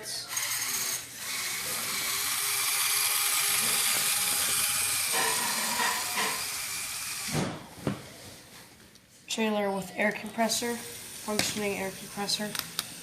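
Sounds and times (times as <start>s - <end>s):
electric motors and gears whirring: 0.0s - 8.3s, 10.0s - 13.0s.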